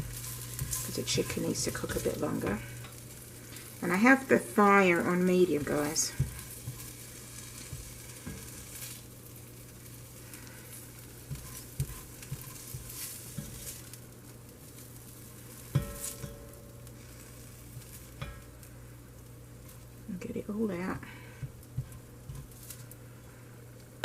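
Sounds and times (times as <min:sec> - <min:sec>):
vegetables sizzling in a frying pan: 0:00.0 - 0:24.0.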